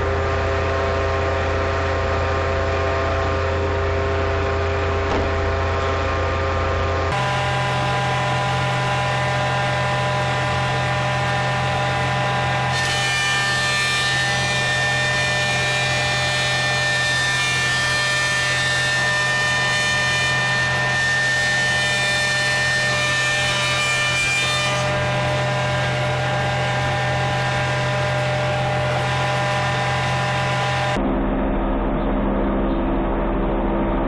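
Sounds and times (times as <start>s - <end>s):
thickness planer whining: 0.0s - 31.0s.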